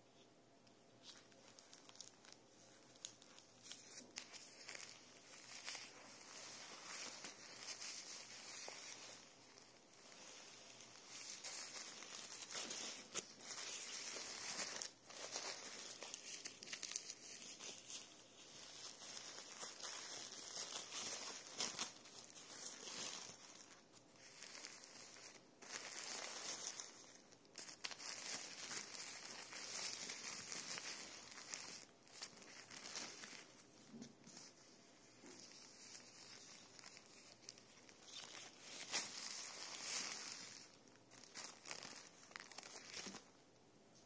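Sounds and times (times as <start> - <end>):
plastic diaper crinkling: 1.0 - 43.4.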